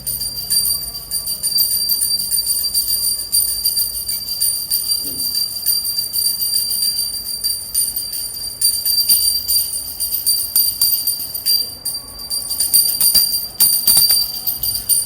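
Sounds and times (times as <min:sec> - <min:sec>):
hand bell ringing: 0:00.0 - 0:15.0.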